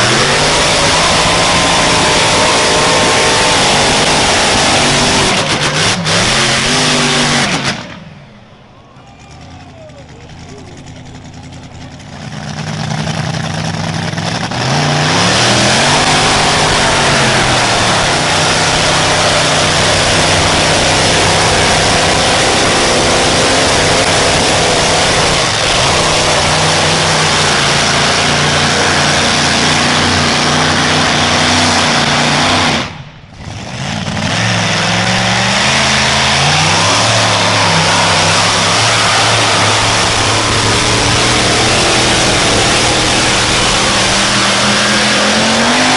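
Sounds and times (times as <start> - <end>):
vehicle engine at high revs: 0.0 - 45.9.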